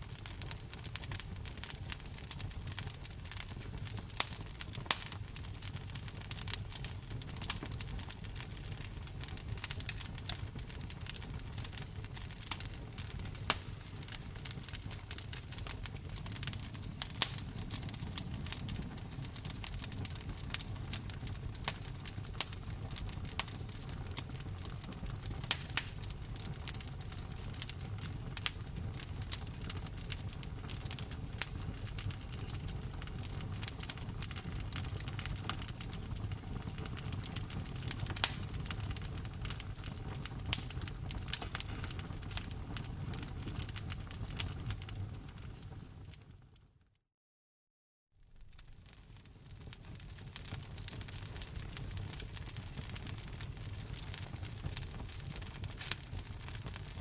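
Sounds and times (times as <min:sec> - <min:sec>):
flames rumbling: 0:00.0 - 0:46.2, 0:48.3 - 0:57.0
wood fire crackling: 0:00.0 - 0:46.4, 0:48.3 - 0:57.0.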